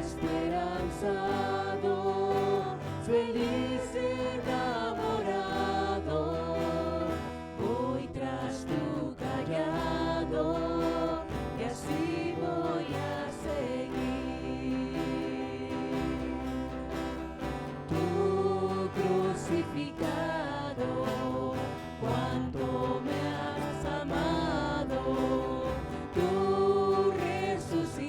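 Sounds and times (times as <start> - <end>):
group singing a praise song: 0.0 - 28.0
guitar accompaniment: 0.0 - 28.0.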